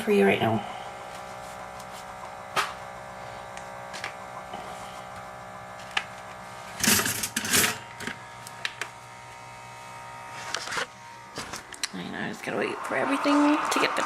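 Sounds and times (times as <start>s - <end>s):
kitchen appliance humming: 0.0s - 14.0s.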